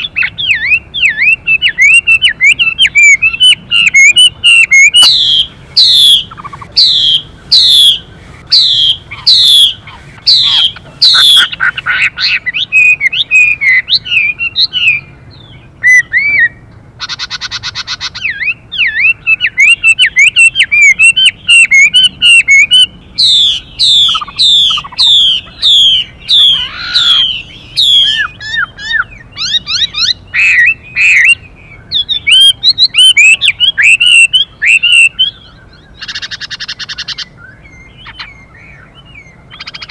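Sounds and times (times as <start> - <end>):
bird warbling phrases: 0.0 - 15.1, 15.8 - 38.4
bird singing whistled notes: 0.0 - 39.9
harsh buzzing bird call: 0.0 - 39.9.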